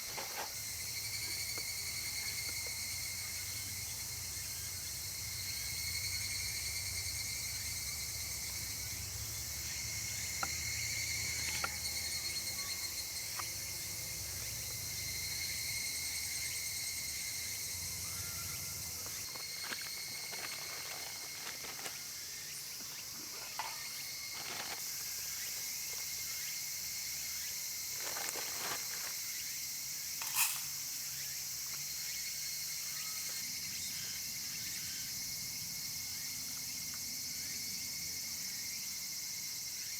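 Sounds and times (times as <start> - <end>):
insect chorus shrilling: 0.0 - 39.9.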